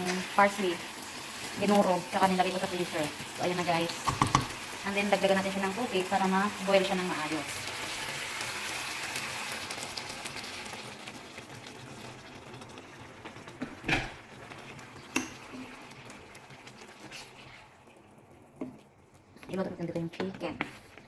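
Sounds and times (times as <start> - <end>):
sauce sizzling and bubbling in a pan: 0.0 - 21.0.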